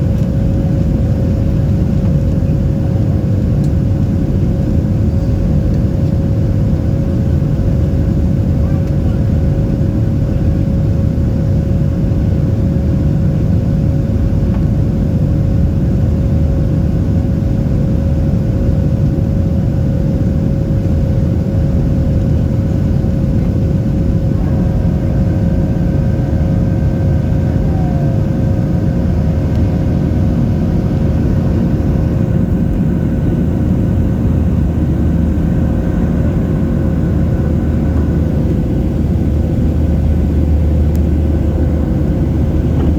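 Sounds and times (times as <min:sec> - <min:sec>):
jet engines roaring in cabin: 0:00.0 - 0:42.9.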